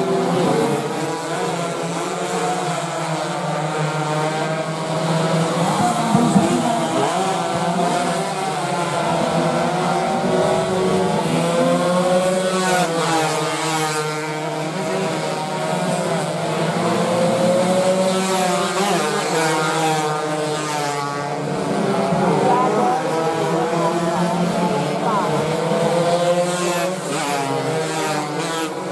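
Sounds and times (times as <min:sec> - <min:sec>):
motorcycles revving: 0:00.0 - 0:28.9.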